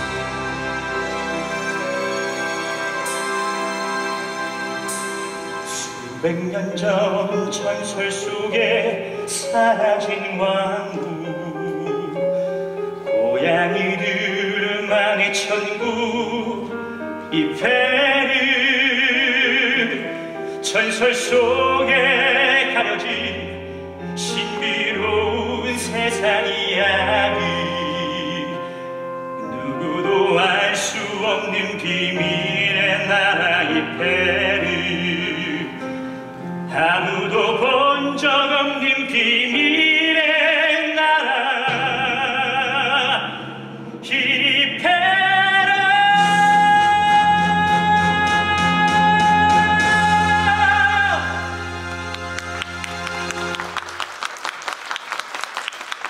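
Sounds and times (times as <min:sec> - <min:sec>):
orchestral backing with piano: 0:00.0 - 0:56.0
man singing operatically: 0:05.6 - 0:52.4.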